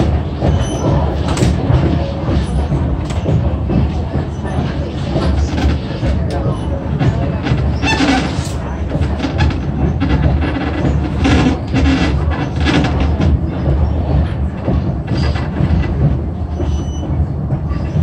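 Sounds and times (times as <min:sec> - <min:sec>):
train car rattling and clacking: 0:00.0 - 0:18.0
train rumbling on track: 0:00.0 - 0:18.0.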